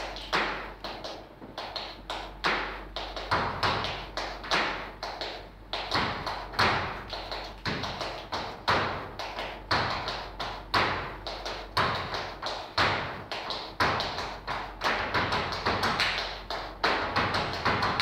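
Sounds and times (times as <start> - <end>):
shoes stamping and tapping on stage: 0.0 - 18.0.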